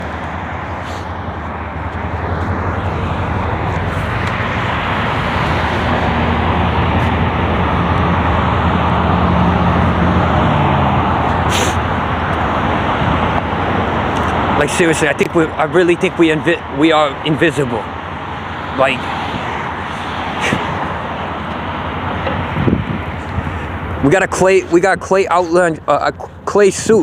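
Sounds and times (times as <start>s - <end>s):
low engine hum: 0.0s - 27.0s
rumble of traffic: 0.0s - 27.0s.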